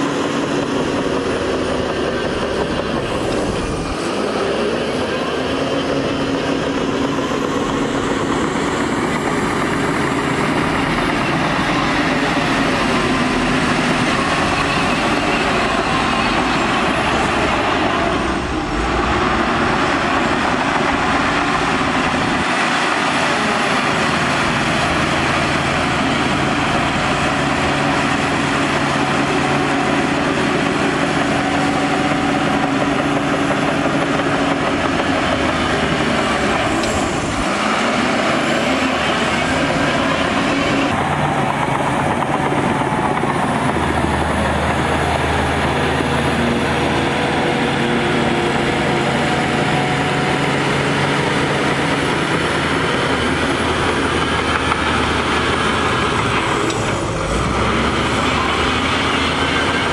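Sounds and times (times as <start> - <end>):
bulldozer diesel engine: 0.0 - 59.9
dump truck diesel engine: 0.0 - 59.9.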